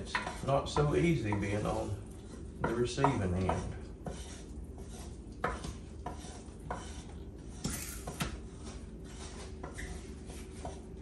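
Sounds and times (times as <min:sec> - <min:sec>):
spoon scraping a pot: 0:00.0 - 0:11.0.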